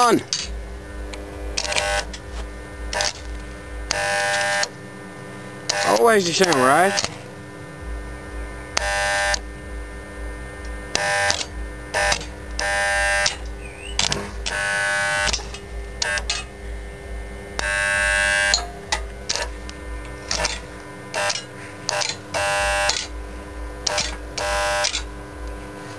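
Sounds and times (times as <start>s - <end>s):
low electrical hum: 0.0s - 25.9s
welding arc buzzing: 0.0s - 25.9s.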